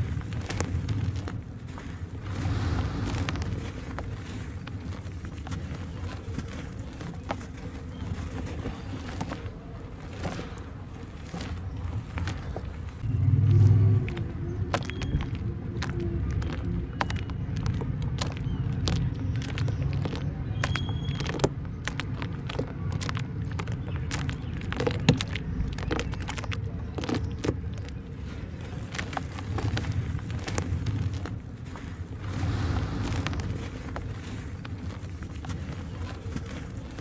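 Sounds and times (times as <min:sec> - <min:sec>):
steady low rumble: 0:00.0 - 0:20.6, 0:26.7 - 0:37.0
dry dirt crumbling into water: 0:00.0 - 0:37.0
hands squishing wet mud: 0:00.0 - 0:37.0
wet squelches and splats: 0:00.0 - 0:37.0.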